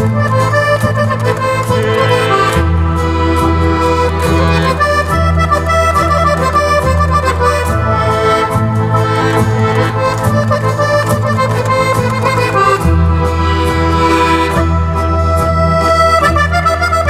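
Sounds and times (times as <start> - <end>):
accordion dance tune: 0.0 - 17.0.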